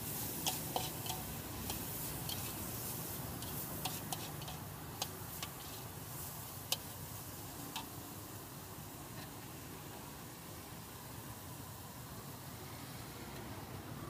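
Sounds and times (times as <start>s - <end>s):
steady frying hiss: 0.0s - 14.0s.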